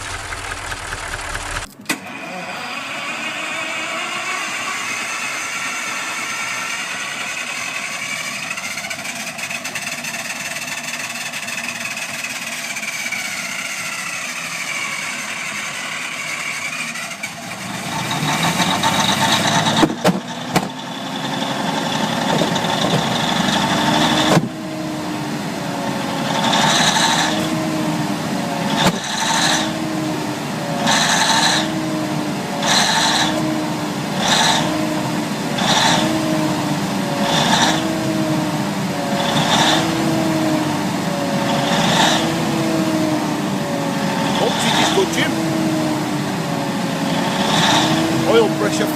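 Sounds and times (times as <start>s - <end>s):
diesel engine whining and revving: 0.0s - 48.9s.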